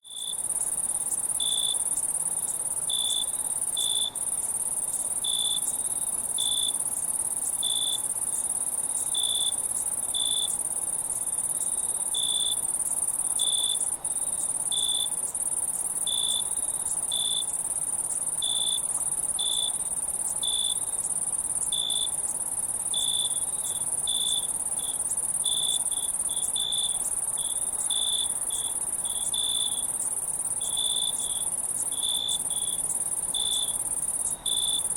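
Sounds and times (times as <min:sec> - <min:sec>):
high-pitched insect chorus: 0:00.0 - 0:34.9.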